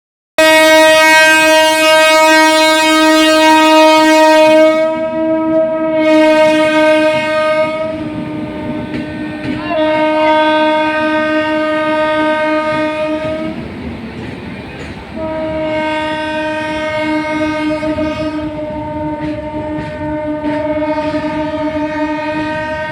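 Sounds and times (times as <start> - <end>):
train horn blast: 0.4 - 13.6, 15.2 - 22.9.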